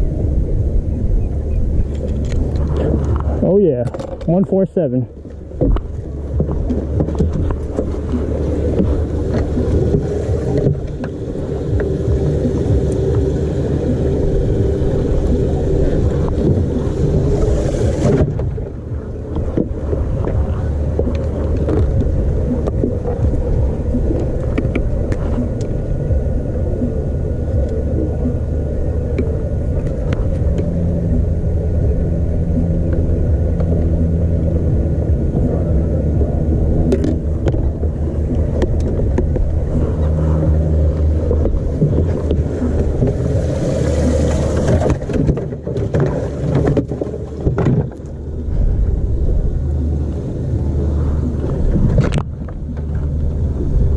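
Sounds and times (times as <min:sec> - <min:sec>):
boat engine humming: 0:00.0 - 0:53.9.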